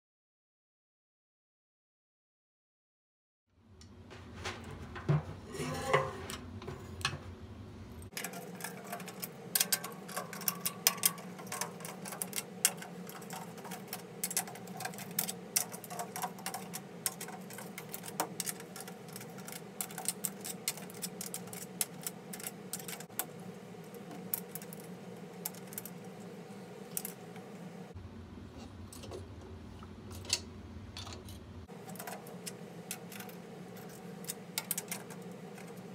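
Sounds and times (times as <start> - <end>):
faint steady hum: 3.6 - 35.9.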